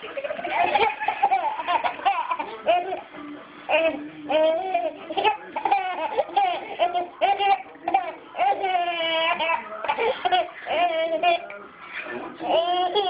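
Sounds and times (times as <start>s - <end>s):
baby laughing: 0.3s - 3.1s, 3.7s - 11.5s, 12.4s - 13.0s.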